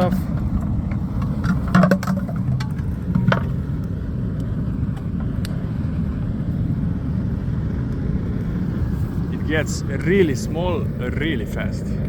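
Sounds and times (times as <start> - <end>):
burning coal crackling: 0.0 - 12.0
furnace roaring: 0.0 - 12.0.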